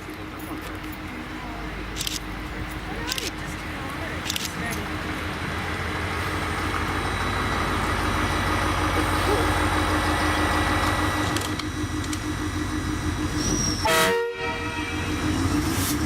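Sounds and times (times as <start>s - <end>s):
electric train running: 0.0s - 16.0s.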